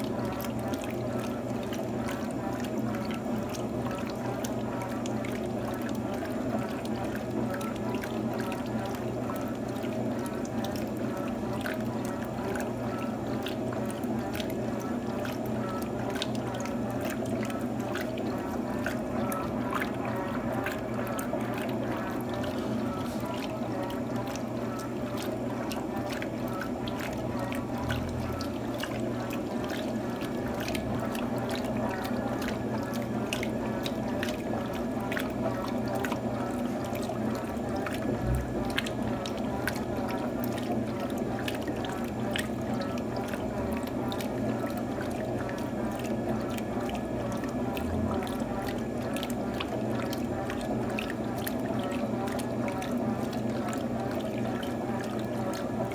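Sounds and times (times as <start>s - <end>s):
washing machine running: 0.0s - 55.9s
water pouring and splashing: 0.0s - 55.9s.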